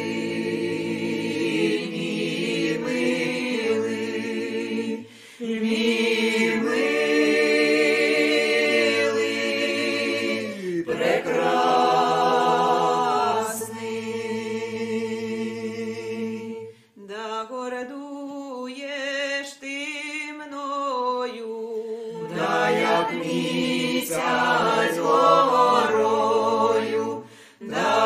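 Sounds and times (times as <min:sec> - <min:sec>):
voices singing a cappella: 0:00.0 - 0:28.0.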